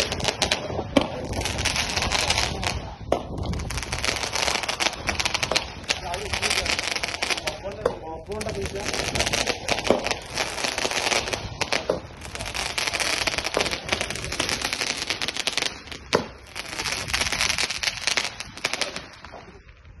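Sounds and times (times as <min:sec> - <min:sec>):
fireworks hiss: 0:00.0 - 0:19.8
fireworks crackling: 0:00.0 - 0:20.0
loud firework crack: 0:00.0 - 0:20.0.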